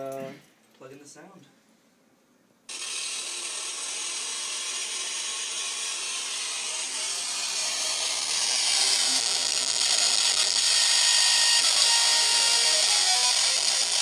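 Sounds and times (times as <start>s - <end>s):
harsh hissing speaker buzz: 2.7s - 14.0s.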